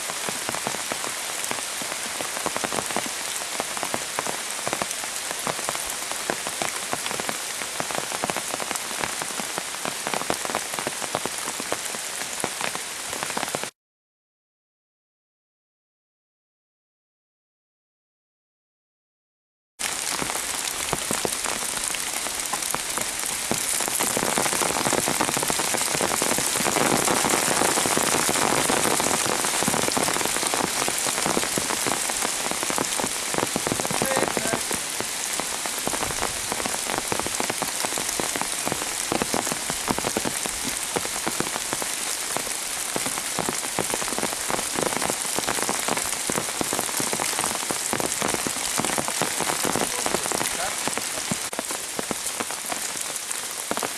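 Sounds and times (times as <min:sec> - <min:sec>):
heavy rain falling: 0:00.0 - 0:13.7, 0:19.8 - 0:53.9.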